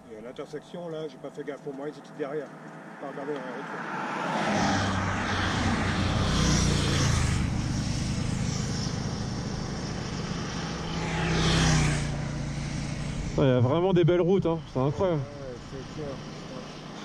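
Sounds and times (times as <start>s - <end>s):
motorcycle engine hum: 1.6s - 17.0s.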